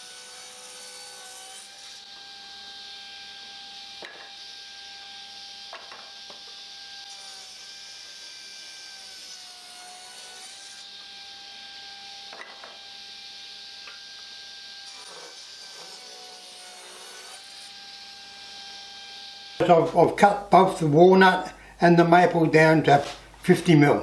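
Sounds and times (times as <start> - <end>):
power saw cutting wood: 0.0 - 21.0.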